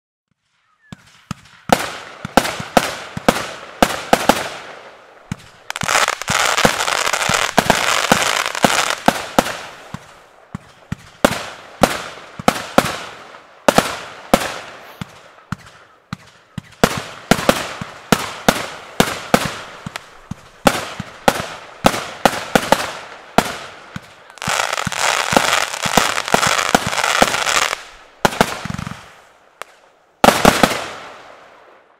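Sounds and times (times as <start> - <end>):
firework shots and bursts: 0.9 - 31.8
firework crackling: 1.0 - 31.6.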